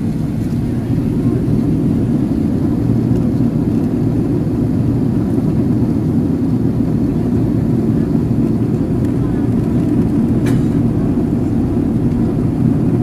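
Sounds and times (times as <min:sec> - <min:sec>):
airflow over fuselage: 0:00.0 - 0:13.0
jet engine rumble in cabin: 0:00.0 - 0:13.0.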